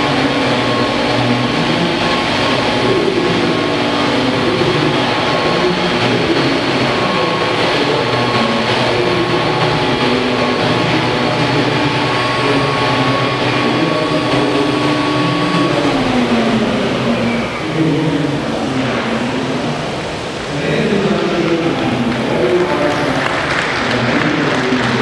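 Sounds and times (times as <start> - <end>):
model helicopter rotor whine: 0.0 - 23.4.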